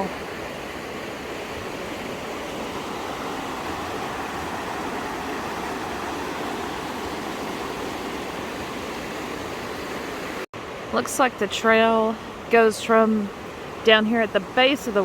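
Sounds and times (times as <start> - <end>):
fast-flowing water rushing: 0.0 - 15.0.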